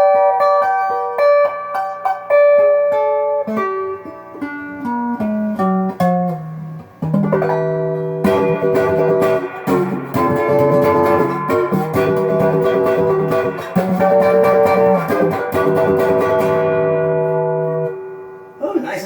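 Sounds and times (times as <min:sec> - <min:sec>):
overdriven electric guitar chords: 0:00.0 - 0:18.6.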